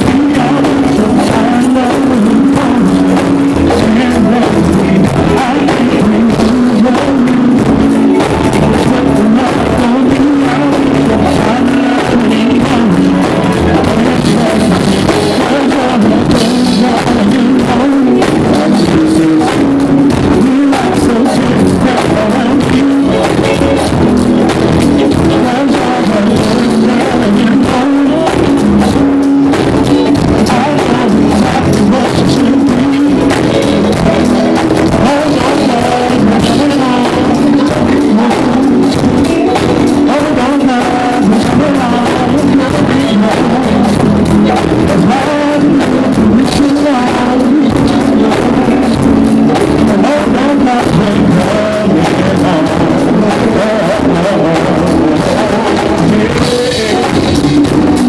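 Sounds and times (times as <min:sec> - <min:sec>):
drum beat: 0:00.0 - 0:58.0
live band playing: 0:00.0 - 0:58.0
people singing: 0:00.0 - 0:58.0.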